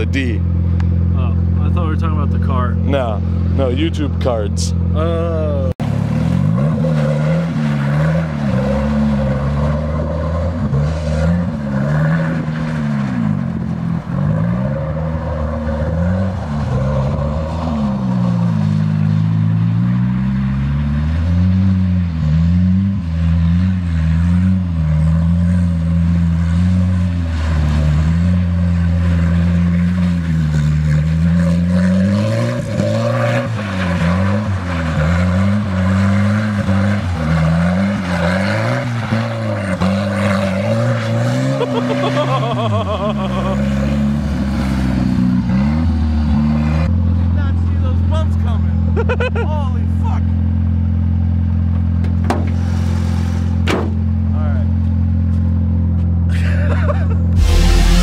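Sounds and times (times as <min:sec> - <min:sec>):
car engine revving: 0:00.0 - 0:49.2, 0:57.3 - 0:58.0.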